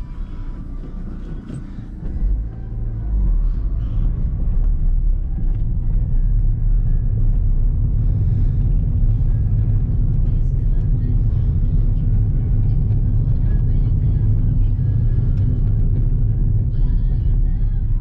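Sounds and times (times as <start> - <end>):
car cabin road and engine rumble: 0.0 - 18.0
faint car stereo music: 0.0 - 18.0.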